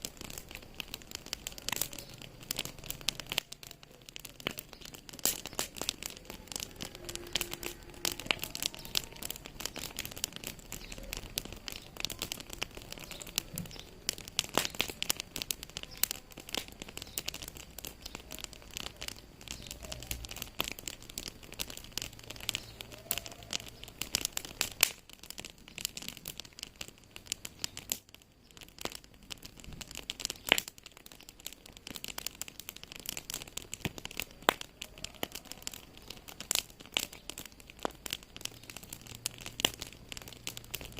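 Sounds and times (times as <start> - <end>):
sharp wood snaps: 0.0 - 40.9
wood fire crackling: 0.0 - 40.9.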